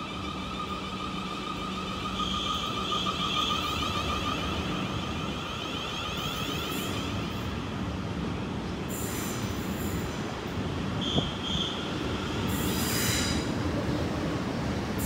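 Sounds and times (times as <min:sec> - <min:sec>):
train rumble: 0:00.0 - 0:15.0
train whine: 0:00.0 - 0:15.0.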